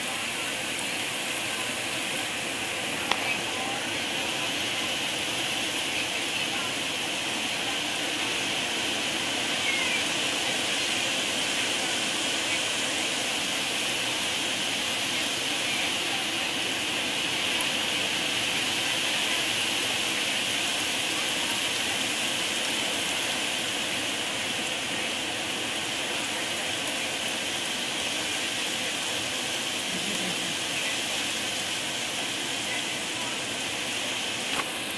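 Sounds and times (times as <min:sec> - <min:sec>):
heavy rain hiss: 0:00.0 - 0:34.9.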